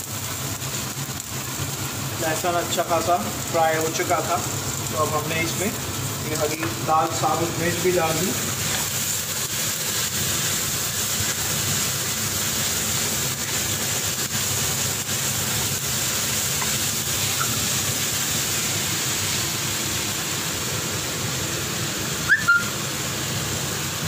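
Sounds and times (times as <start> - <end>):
hot oil sizzling in a pan: 0.0 - 24.0.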